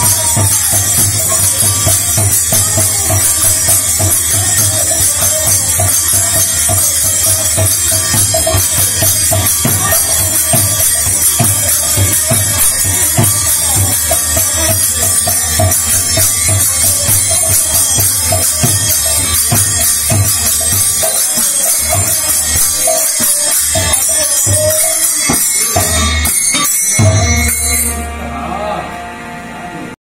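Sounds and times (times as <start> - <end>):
cymbals jingling: 0.0 - 28.2
drum beating lively rhythm: 0.0 - 29.2
harmonium: 0.0 - 30.0.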